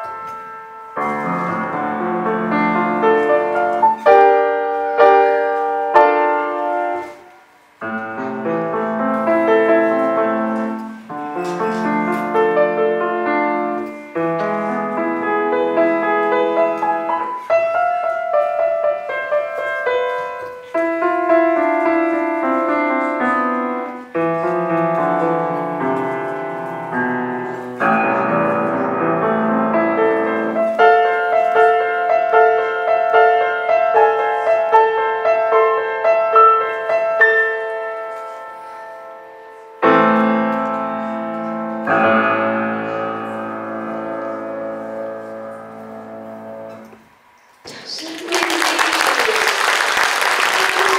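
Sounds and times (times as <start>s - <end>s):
solo piano: 0.0s - 47.9s.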